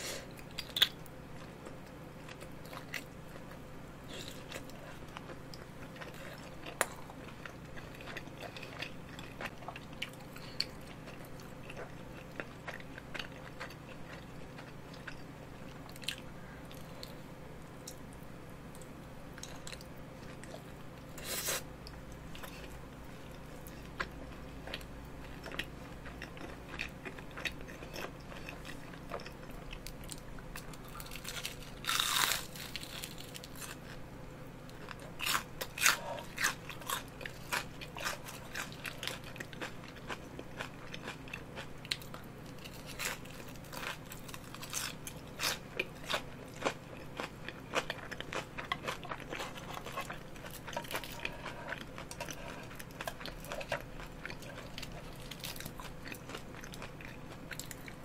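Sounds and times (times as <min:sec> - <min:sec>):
person chewing crunchy food: 0:00.2 - 0:17.2, 0:18.8 - 0:58.0.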